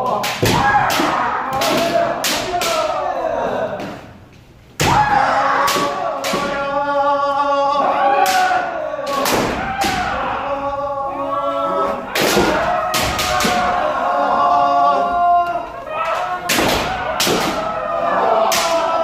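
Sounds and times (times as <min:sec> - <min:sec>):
people shouting: 0:00.0 - 0:04.2, 0:04.8 - 0:19.0.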